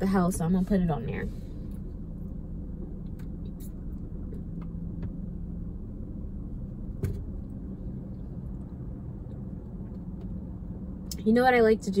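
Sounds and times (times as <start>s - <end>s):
vehicle cabin rumble: 0.0s - 12.0s.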